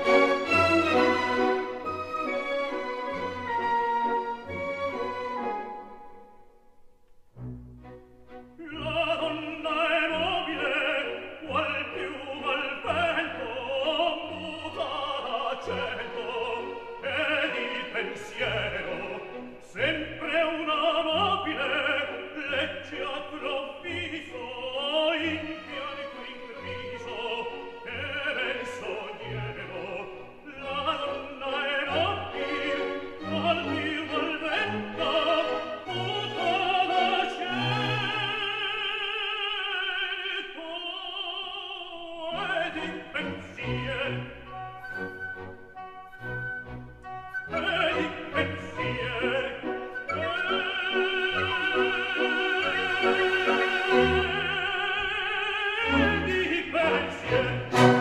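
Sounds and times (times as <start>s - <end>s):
operatic singing with vibrato: 0.0s - 6.6s, 8.2s - 58.0s
orchestral accompaniment: 0.0s - 6.7s, 7.3s - 39.3s, 42.3s - 58.0s.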